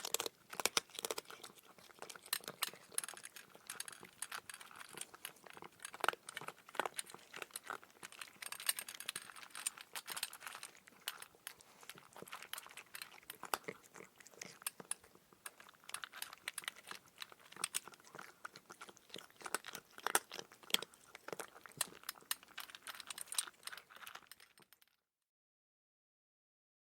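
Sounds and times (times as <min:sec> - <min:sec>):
cat crunching dry kibble: 0:00.0 - 0:25.0.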